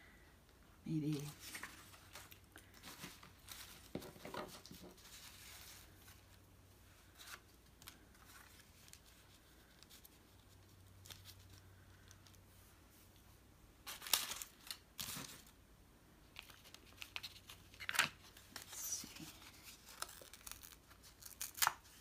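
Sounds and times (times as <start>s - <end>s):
paper rustling and crinkling: 1.1s - 12.7s, 13.8s - 15.6s, 16.2s - 22.0s.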